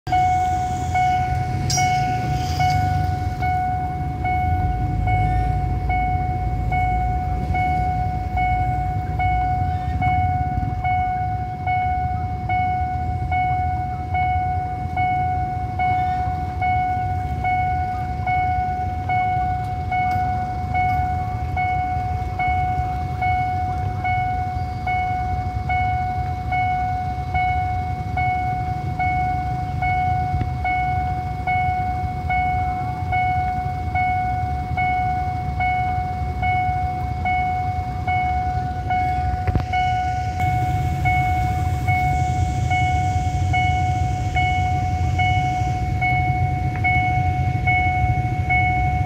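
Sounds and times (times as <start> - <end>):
idling engines rumbling: 0.0 - 49.0
level crossing warning bell: 0.1 - 49.0.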